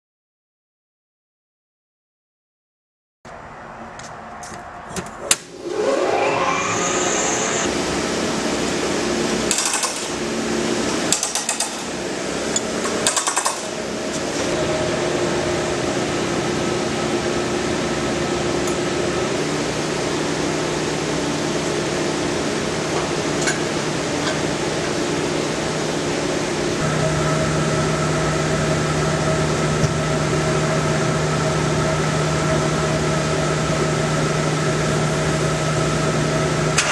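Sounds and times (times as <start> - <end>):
machinery humming: 3.3 - 36.9.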